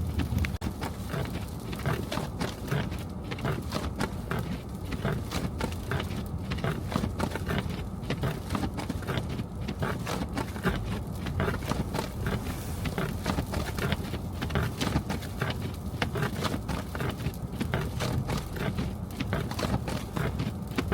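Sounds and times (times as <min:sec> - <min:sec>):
low road rumble: 0:00.0 - 0:20.9.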